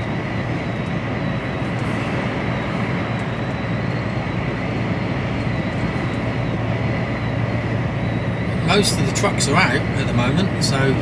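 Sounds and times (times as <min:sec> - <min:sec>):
lorry engine and road noise: 0:00.0 - 0:11.0.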